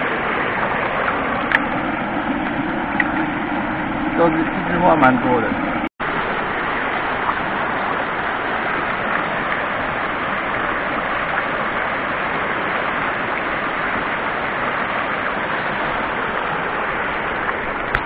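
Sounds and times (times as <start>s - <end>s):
stream rushing over boulders: 0.0s - 18.0s.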